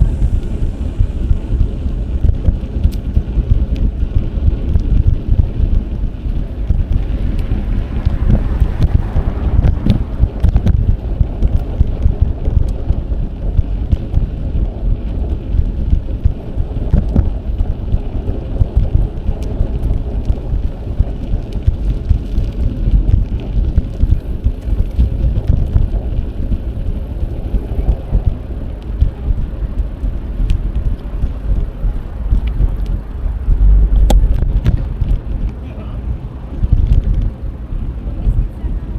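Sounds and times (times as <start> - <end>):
bicycle tyre noise: 0.0 - 38.9
wind buffeting microphone: 0.0 - 38.9
bike clicks and rattles: 1.3 - 35.7, 36.4 - 37.5.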